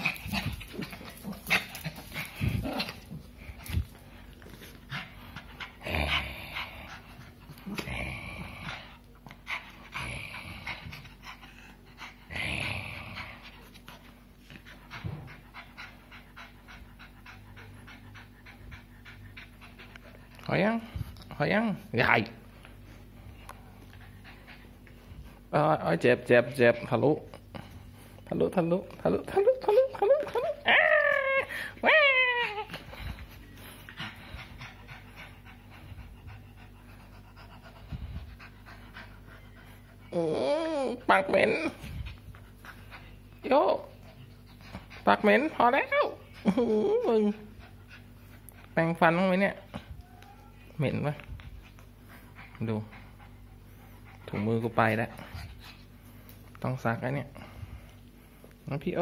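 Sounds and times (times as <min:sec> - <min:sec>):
small dog panting: 0:00.0 - 0:30.7, 0:31.4 - 0:58.8.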